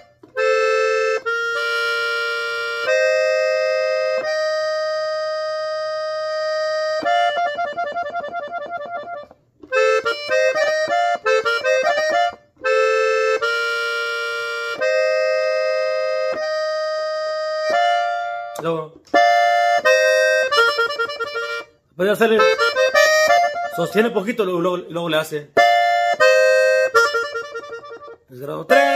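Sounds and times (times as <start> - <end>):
button accordion playing: 0.0 - 28.9.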